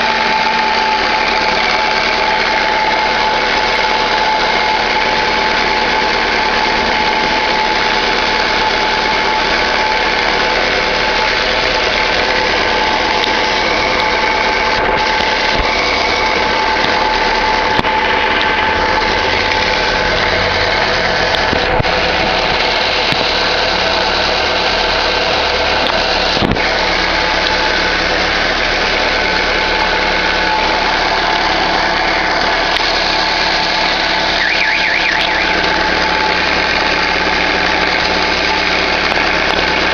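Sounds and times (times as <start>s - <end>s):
car engine idling: 0.0s - 39.9s
clutch bearing whine: 0.0s - 39.9s.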